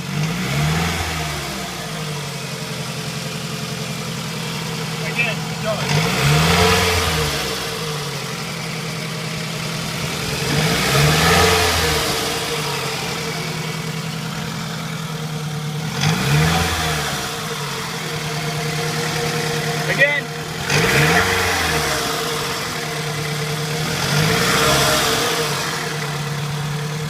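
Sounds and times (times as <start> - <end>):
car engine idling and revving: 0.0 - 27.0
engine grinding noise: 0.0 - 27.0.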